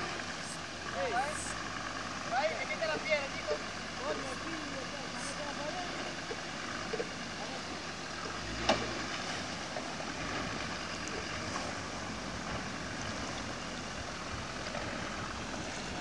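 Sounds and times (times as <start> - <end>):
diesel engine running low: 0.0 - 16.0
river water splashing: 0.0 - 16.0.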